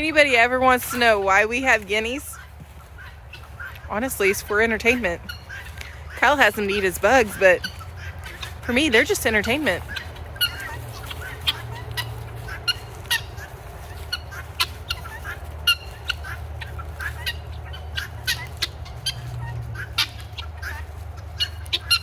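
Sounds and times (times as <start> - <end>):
guinea fowl chirping: 0.0 - 22.0.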